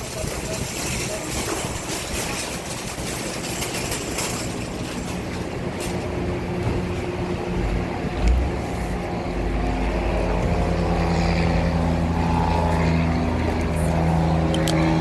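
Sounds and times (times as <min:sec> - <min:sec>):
vehicle motor rumbling: 0:00.0 - 0:15.0.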